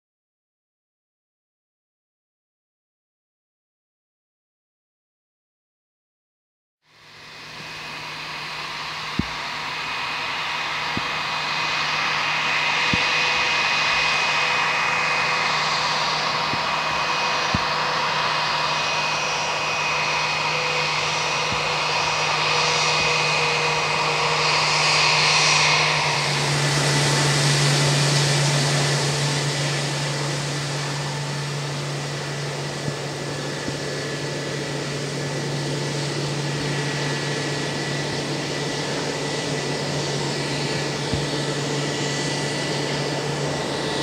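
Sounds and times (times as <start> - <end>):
jet engine whine: 6.9 - 44.0
low hum: 6.9 - 44.0.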